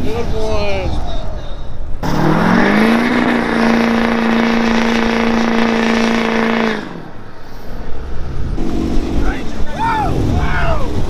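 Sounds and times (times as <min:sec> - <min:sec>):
engine rumble: 0:00.0 - 0:11.0
truck engine revving: 0:00.0 - 0:11.0.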